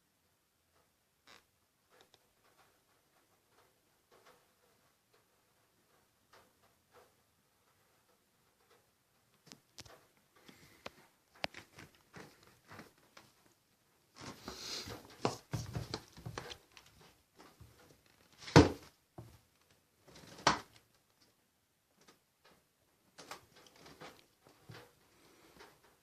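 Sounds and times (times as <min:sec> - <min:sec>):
rustling and scraping: 0:00.7 - 0:26.0.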